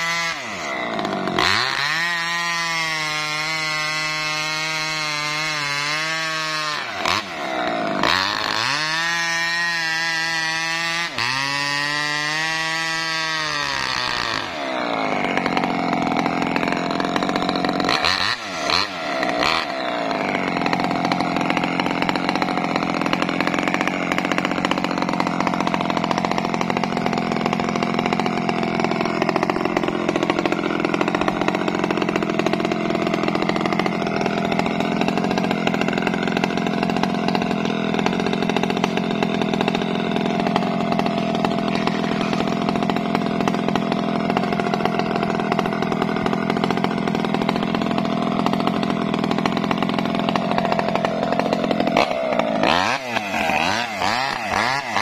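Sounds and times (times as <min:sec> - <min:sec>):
two-stroke chainsaw engine running: 0:00.0 - 0:55.0.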